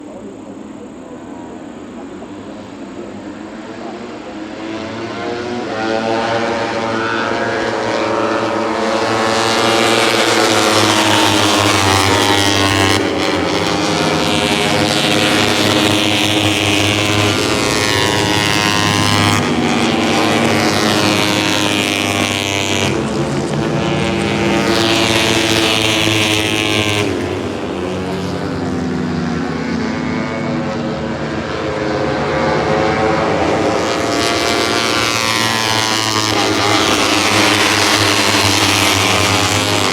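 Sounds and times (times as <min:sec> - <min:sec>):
race bike engines revving: 0:00.0 - 0:39.9.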